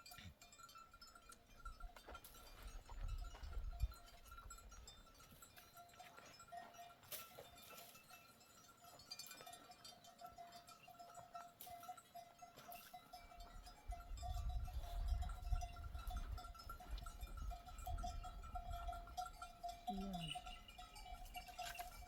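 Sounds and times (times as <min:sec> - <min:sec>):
sheep bells ringing: 0:00.0 - 0:22.0.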